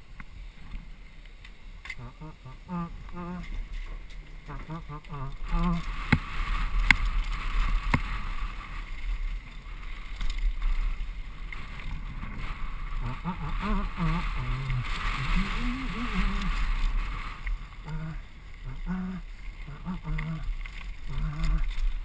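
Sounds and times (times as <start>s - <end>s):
wind rushing over microphone: 2.0s - 22.0s
tyres crunching on gravel: 3.0s - 22.0s.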